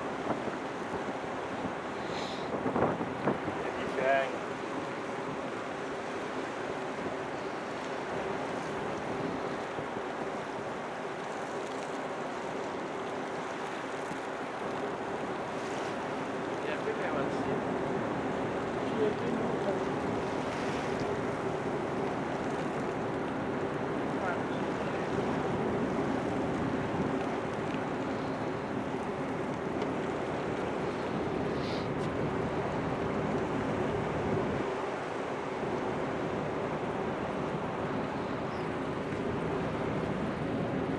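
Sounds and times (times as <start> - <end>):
sea water: 0.0 - 40.9
wind on a ship deck: 0.0 - 40.9.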